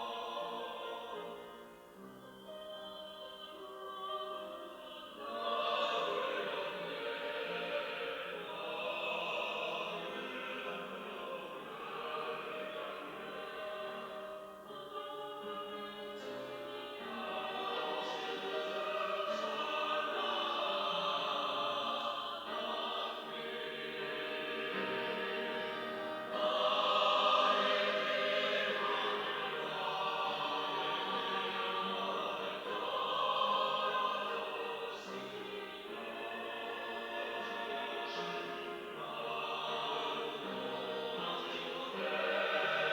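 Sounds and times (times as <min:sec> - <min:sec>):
church choir singing: 0:00.0 - 0:42.9.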